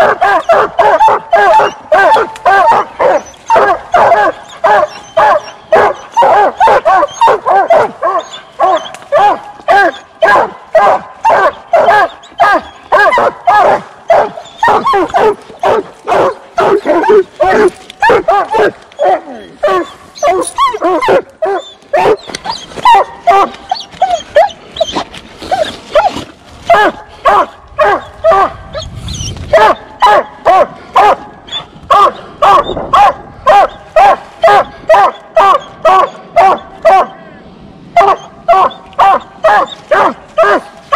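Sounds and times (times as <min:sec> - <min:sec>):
dogs barking: 0:00.0 - 0:28.9, 0:29.5 - 0:37.2, 0:38.0 - 0:40.9.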